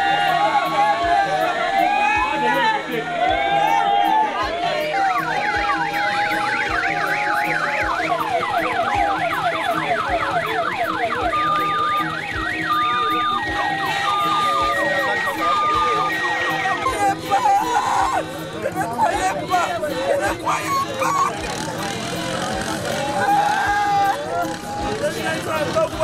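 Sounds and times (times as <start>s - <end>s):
siren yelping: 0.0s - 25.9s.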